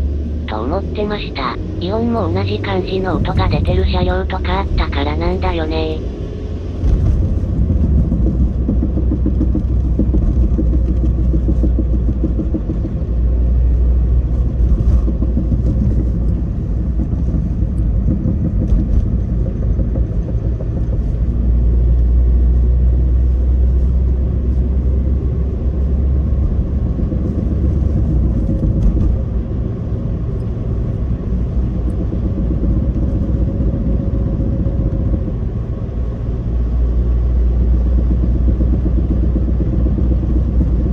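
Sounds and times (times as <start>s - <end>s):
road and engine rumble inside car: 0.0s - 40.9s.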